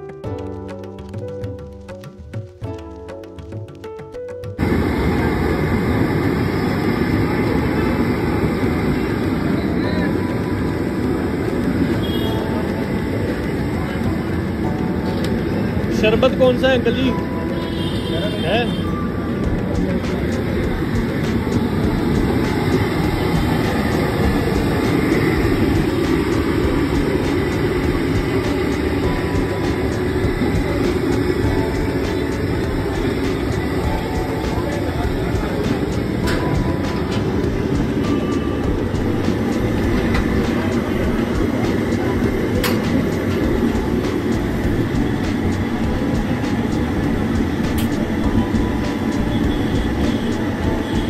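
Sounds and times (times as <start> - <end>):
crowd noise: 4.6 - 51.0
traffic rumble: 4.6 - 51.0.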